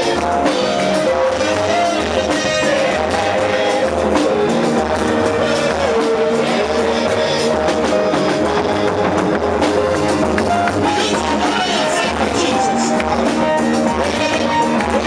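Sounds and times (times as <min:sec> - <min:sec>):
band music with guitar and drums: 0:00.0 - 0:15.0.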